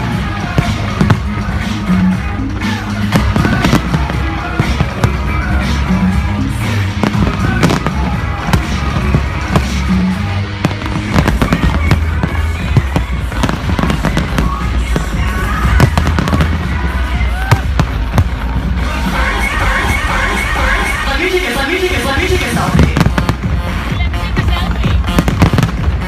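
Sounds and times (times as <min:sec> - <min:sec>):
fireworks bangs and crackles: 0:00.0 - 0:19.6, 0:22.0 - 0:26.0
music with bass line: 0:00.0 - 0:26.0.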